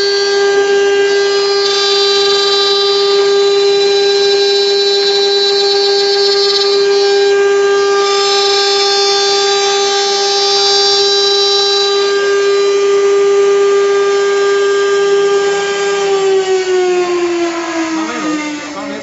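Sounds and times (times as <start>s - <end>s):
router bit cutting wood: 0.0s - 19.0s
router spindle whining: 0.0s - 19.0s.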